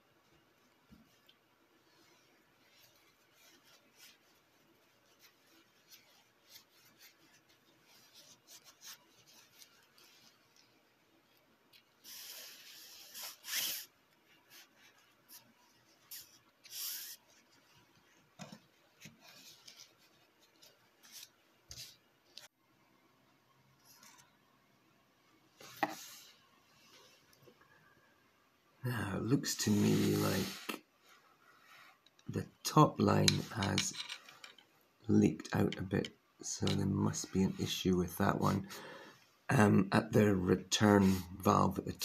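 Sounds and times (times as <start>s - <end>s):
faint rubbing and rustling: 0.0s - 22.6s, 23.8s - 24.4s, 25.5s - 28.0s, 29.3s - 42.0s.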